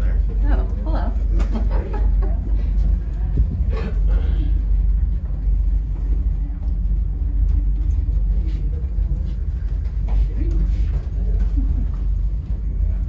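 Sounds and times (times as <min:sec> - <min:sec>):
cable car cabin rumble: 0:00.0 - 0:13.0.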